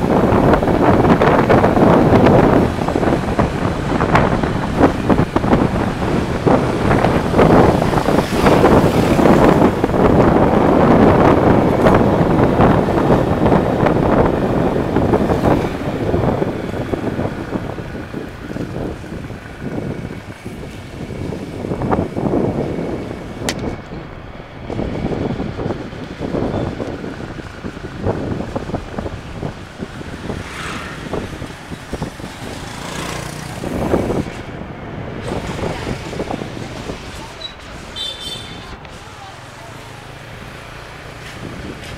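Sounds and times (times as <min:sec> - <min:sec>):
street traffic: 0:00.0 - 0:41.9
wind buffeting microphone: 0:00.0 - 0:41.9.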